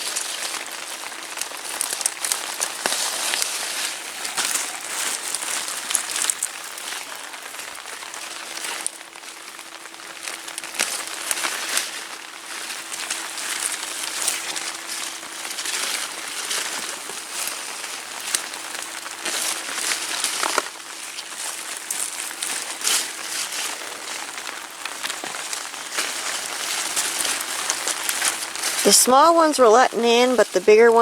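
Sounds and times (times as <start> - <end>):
rain hissing: 0.0 - 31.0
raindrops hitting umbrella fabric: 0.0 - 31.0.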